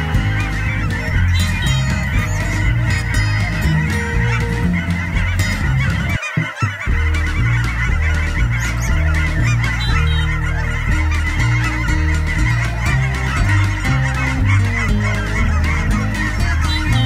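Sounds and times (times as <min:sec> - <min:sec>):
geese and swans honking: 0:00.0 - 0:17.0.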